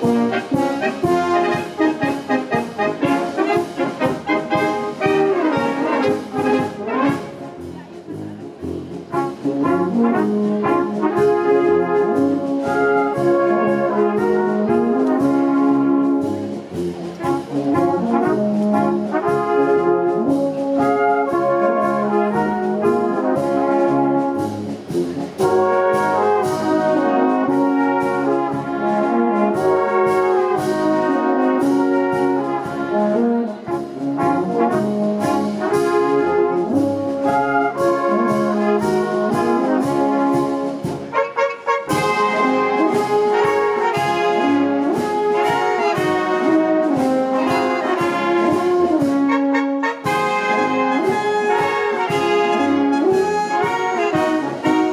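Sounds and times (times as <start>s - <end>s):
brass band playing: 0.0s - 54.9s.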